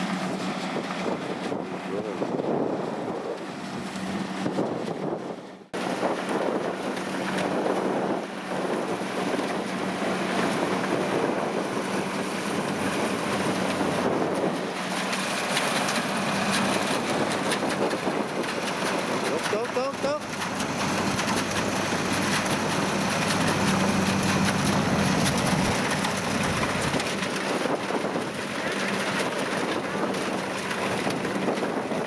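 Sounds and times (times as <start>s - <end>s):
wind on microphone: 0.0s - 32.0s
combine harvester engine drone: 5.8s - 32.0s.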